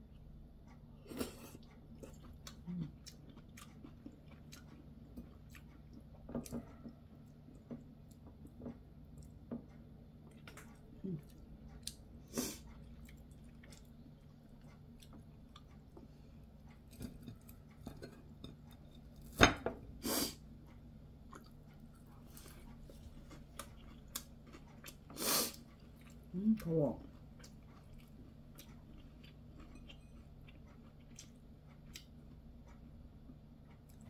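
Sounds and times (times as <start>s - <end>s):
steady low hum: 0.0s - 34.0s
chewing: 0.1s - 19.3s, 20.7s - 34.0s.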